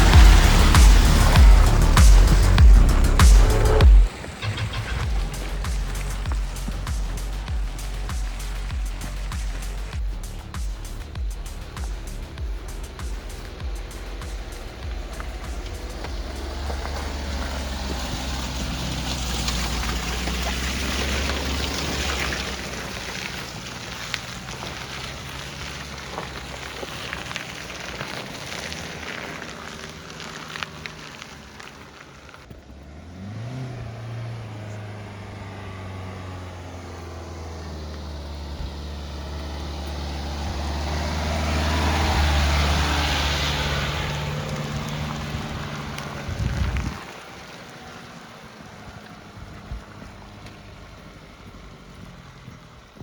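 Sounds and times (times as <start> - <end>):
diesel engine running: 0.0 - 53.0
tyre and track noise: 0.0 - 53.0.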